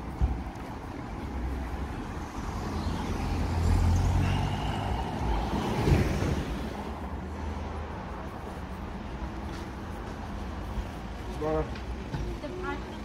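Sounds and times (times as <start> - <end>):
car engines in slow traffic: 0.0 - 13.0.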